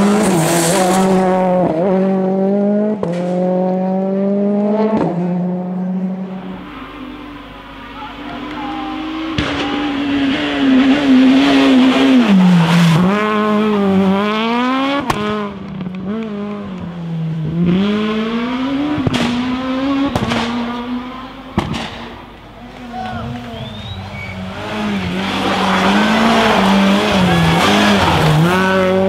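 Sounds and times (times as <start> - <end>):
rally car engine revving: 0.0 - 29.0.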